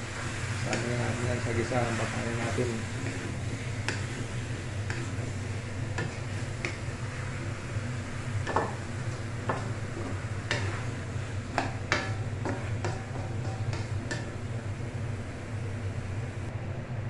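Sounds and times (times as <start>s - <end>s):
wooden spatula scraping a wok: 0.0s - 14.8s.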